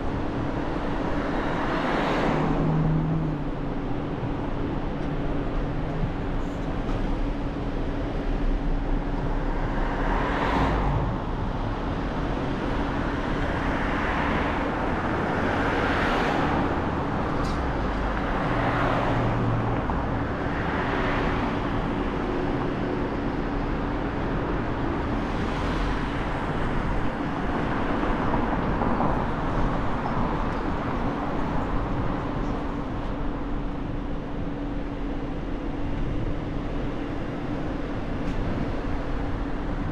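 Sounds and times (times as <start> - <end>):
car road and engine noise: 0.0 - 39.9
vehicles passing: 0.0 - 39.9.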